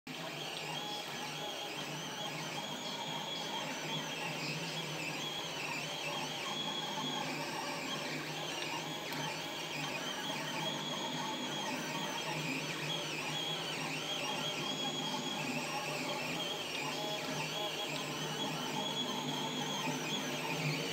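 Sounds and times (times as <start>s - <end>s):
stepper motors whining: 0.1s - 20.9s.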